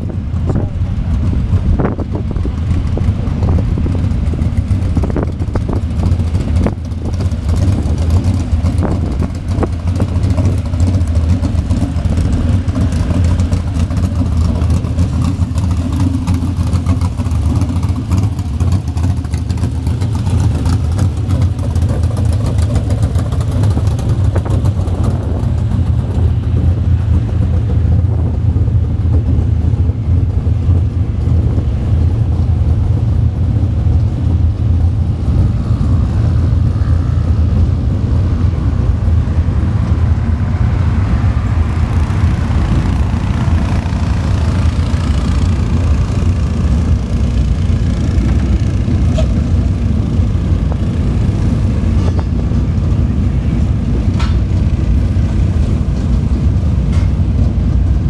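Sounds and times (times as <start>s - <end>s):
low engine drone: 0.0s - 58.0s.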